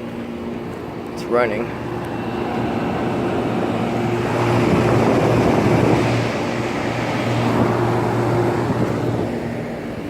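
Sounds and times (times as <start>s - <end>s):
compressor hum: 0.0s - 10.0s
condenser fan noise: 0.0s - 10.0s.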